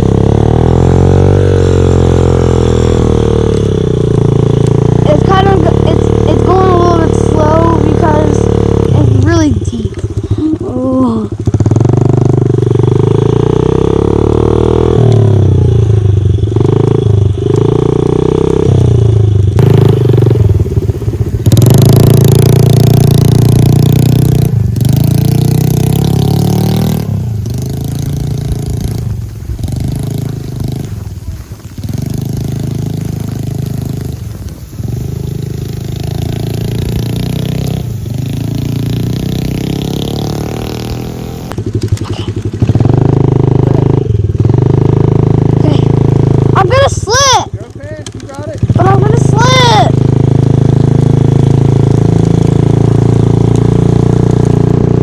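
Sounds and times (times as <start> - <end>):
dirt bike engine revving: 0.0 - 9.9, 11.5 - 19.0, 19.6 - 47.4.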